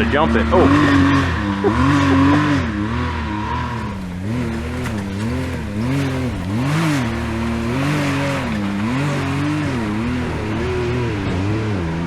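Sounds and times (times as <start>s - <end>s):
utility vehicle engine revving: 0.0s - 12.0s.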